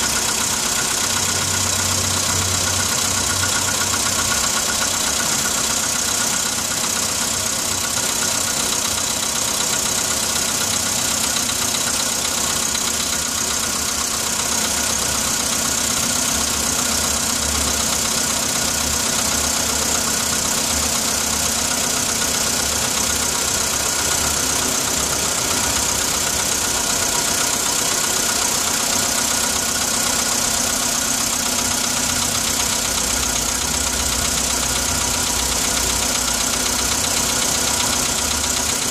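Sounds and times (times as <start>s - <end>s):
car engine idling: 0.0s - 38.9s
engine knocking: 0.0s - 38.9s.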